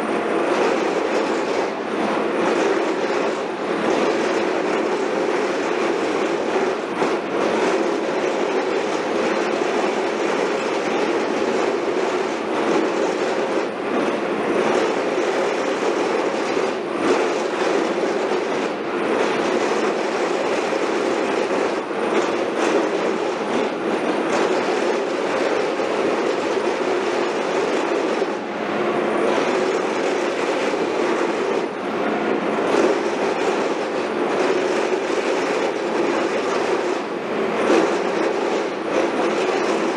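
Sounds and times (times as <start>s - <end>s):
heavy construction machinery running: 0.0s - 39.9s.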